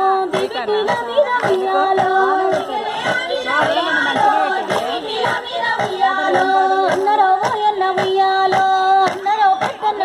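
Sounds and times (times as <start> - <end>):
women singing a folk song: 0.0 - 10.0
hand claps: 0.3 - 10.0.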